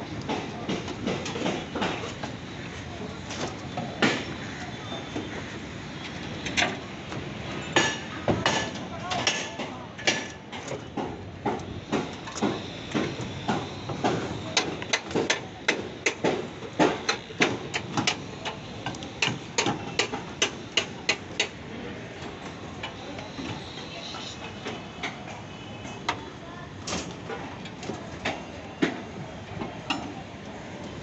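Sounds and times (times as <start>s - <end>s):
construction site background noise: 0.0s - 31.0s.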